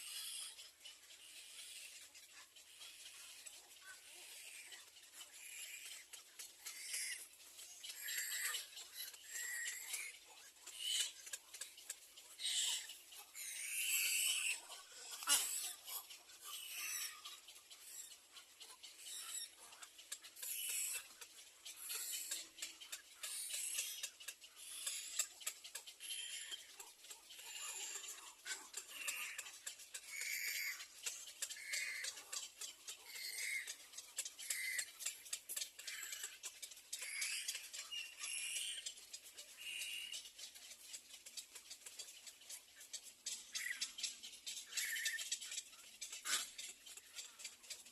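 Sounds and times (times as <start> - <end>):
ducklings peeping: 0.0 - 47.9
faint scattered clicks: 0.0 - 47.9
young birds calling: 0.0 - 47.9.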